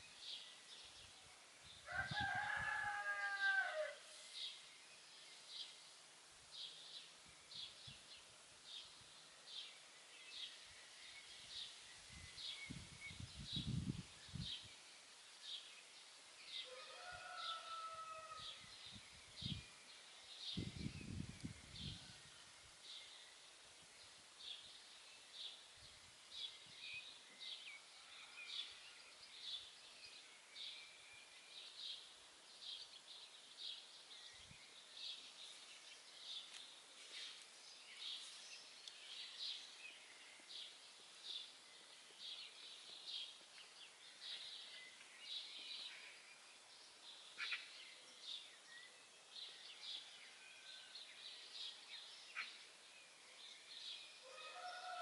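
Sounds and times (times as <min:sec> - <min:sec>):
faint background hiss: 0:00.0 - 0:03.0, 0:03.6 - 0:55.0
songbirds chirping: 0:00.0 - 0:55.0.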